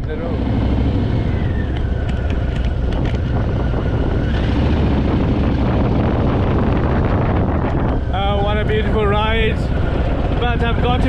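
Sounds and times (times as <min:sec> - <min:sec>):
motorcycle engine running: 0:00.0 - 0:11.0
wind on microphone: 0:00.0 - 0:11.0.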